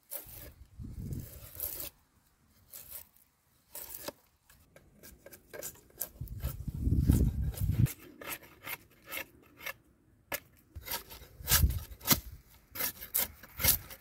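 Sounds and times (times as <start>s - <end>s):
blade scraping bark off branch: 0.0s - 14.0s.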